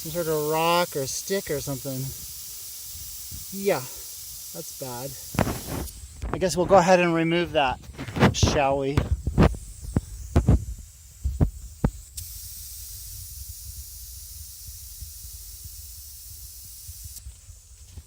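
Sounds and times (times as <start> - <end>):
air hissing from tire: 0.0 - 18.0.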